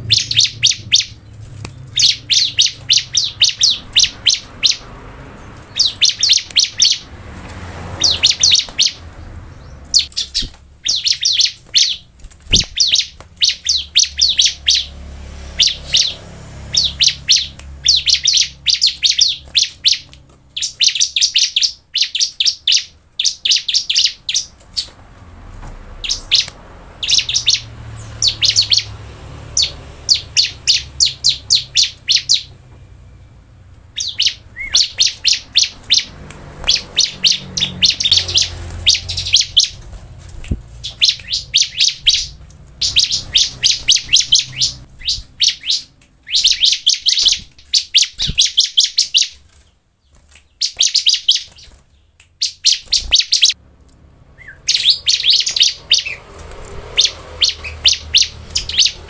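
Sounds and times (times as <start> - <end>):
bird singing high chirps: 0.0 - 7.1, 7.9 - 25.0, 26.0 - 40.0, 40.7 - 53.6, 54.3 - 59.0.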